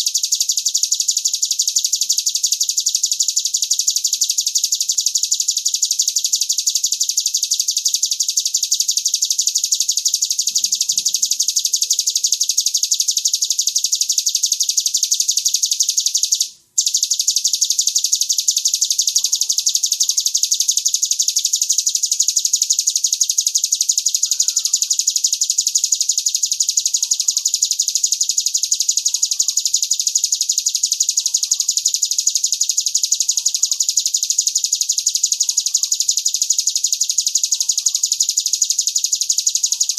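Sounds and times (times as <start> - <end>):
fast high bird trill: 0.0 - 39.9.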